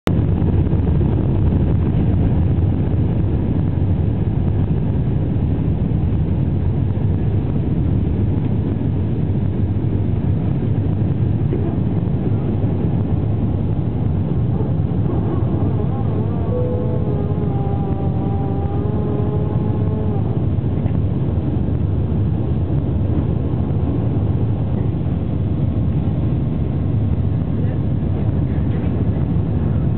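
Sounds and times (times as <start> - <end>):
jet engines at takeoff in cabin: 0.1 - 29.9.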